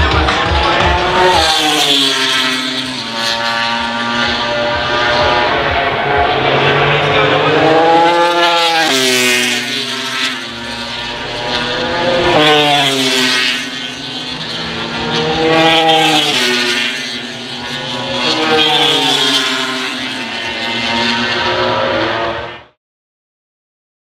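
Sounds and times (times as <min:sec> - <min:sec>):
racing motorcycles passing by: 0:00.0 - 0:22.7.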